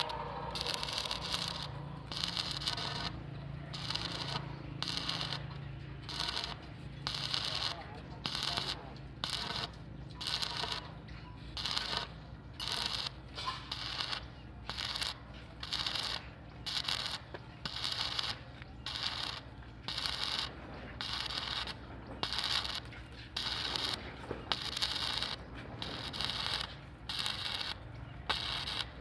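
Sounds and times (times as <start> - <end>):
rasping metal bursts: 0.0 - 29.0
steady low hum: 0.0 - 29.0.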